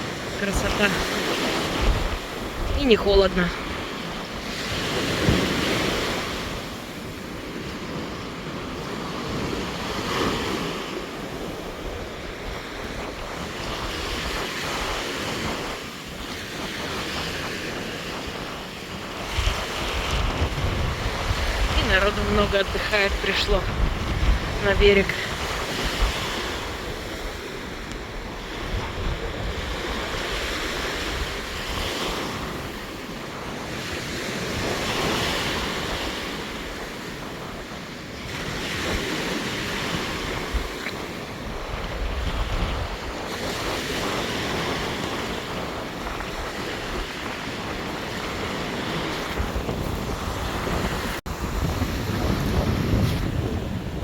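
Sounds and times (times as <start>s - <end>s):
surf breaking on shore: 0.0s - 54.0s
wind buffeting microphone: 0.0s - 54.0s.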